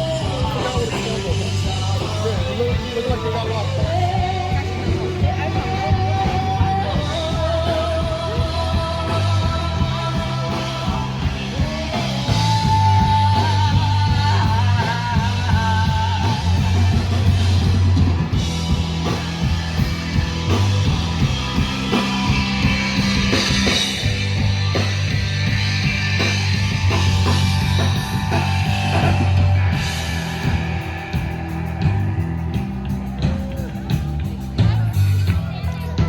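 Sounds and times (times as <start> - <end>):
electric guitar lead notes: 0.0 - 35.6
bass line: 0.0 - 36.0
drums: 0.0 - 36.0.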